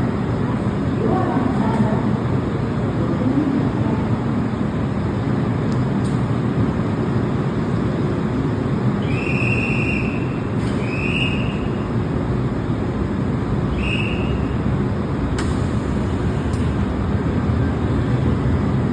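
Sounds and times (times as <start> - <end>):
electric train rumbling: 0.0 - 18.9.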